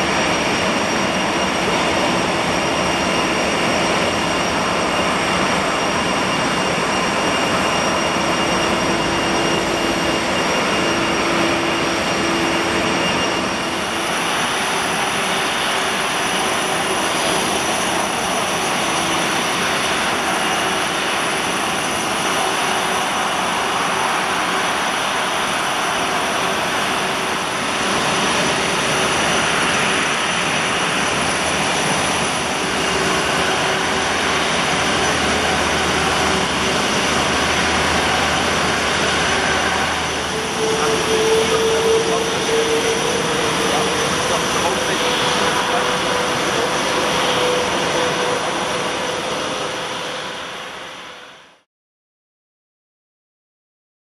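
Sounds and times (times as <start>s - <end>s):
jet engine whine: 0.0s - 51.7s.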